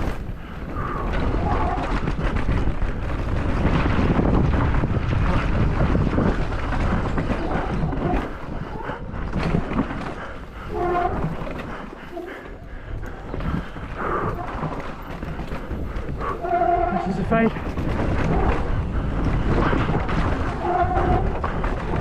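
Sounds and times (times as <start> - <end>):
bike tyres rattling on trail: 0.0 - 22.0
wind on microphone: 0.0 - 22.0.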